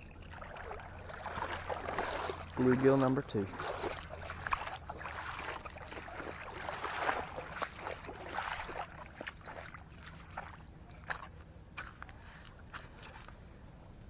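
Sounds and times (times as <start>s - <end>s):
shallow water splashing: 0.0s - 13.5s.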